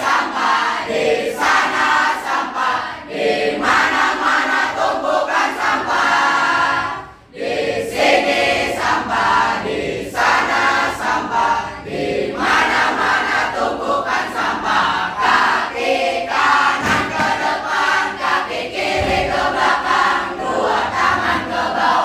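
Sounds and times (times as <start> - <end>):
group singing a cheer song: 0.0 - 22.0.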